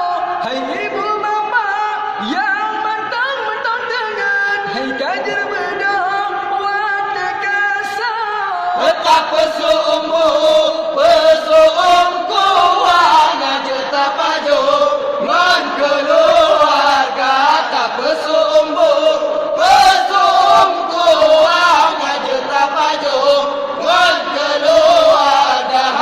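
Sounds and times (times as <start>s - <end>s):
young men singing a chant: 0.0s - 26.0s.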